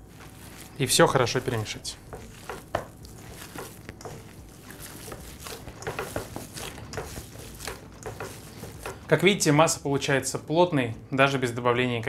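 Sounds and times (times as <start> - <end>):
wet squelches of kneading meat: 0.0 - 9.7.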